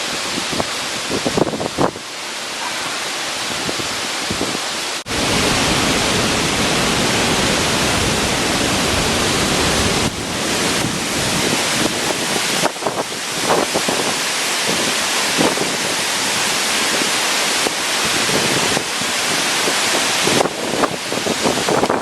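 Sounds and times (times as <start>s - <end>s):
wind buffeting microphone: 0.1s - 2.0s, 3.5s - 22.0s.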